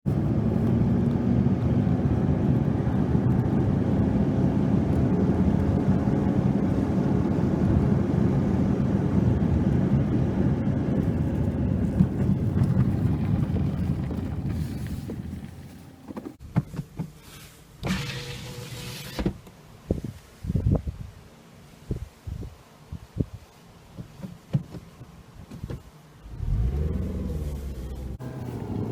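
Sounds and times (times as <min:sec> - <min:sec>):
car engine and road rumble: 0:00.0 - 0:28.9.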